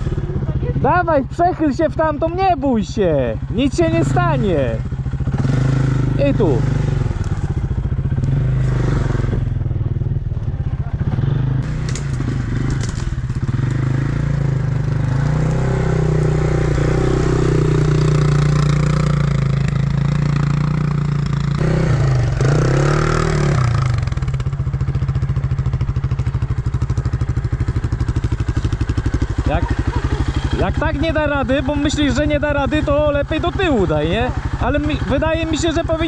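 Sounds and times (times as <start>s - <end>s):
quad bike engine revving and idling: 0.0s - 36.0s.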